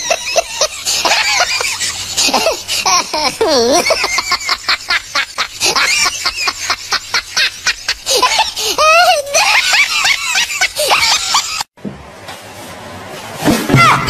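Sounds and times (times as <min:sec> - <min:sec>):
high-pitched giggling laughter: 0:00.0 - 0:11.7.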